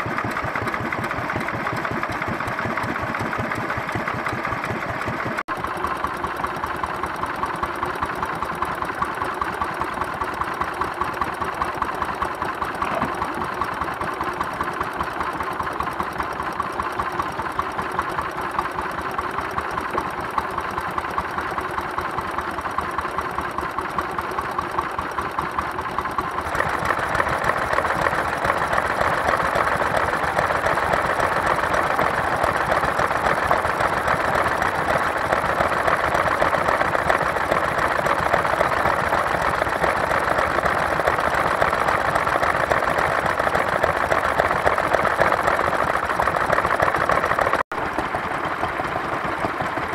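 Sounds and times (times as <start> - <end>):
stationary engines chugging: 0.0 - 49.9.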